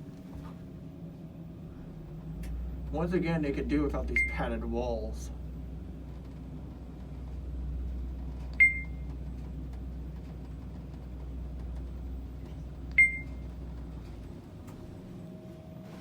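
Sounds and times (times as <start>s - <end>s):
elevator car humming: 0.0s - 16.0s.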